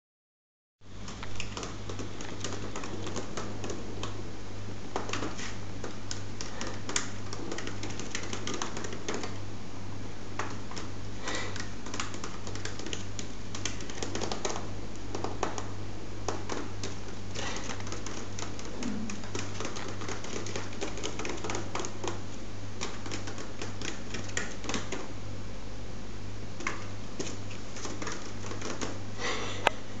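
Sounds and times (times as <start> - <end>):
steady low hum: 0.8 - 30.0.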